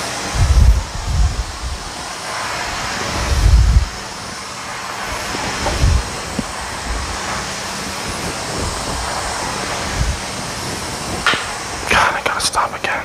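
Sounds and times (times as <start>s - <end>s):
steam cleaner humming and hissing: 0.0s - 13.0s.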